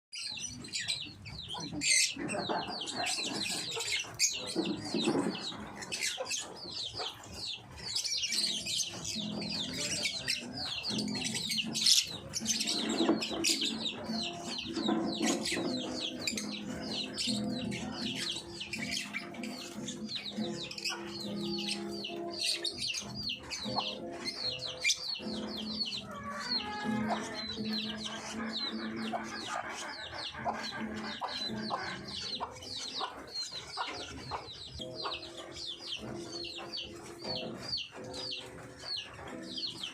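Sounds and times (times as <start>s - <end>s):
lovebirds chattering: 0.1s - 39.9s.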